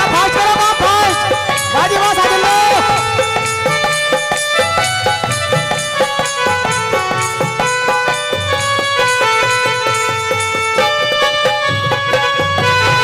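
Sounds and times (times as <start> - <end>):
melody of held notes: 0.0 - 13.0.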